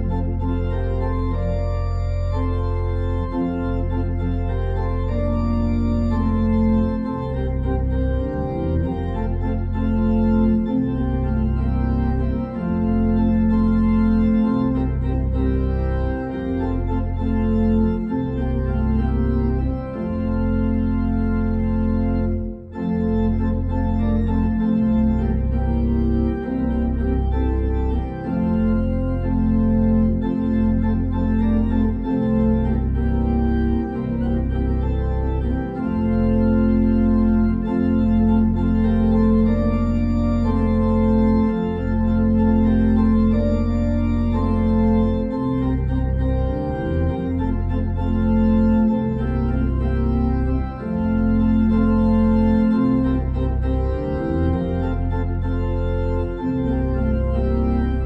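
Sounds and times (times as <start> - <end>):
organ playing sustained chords: 0.0 - 58.0.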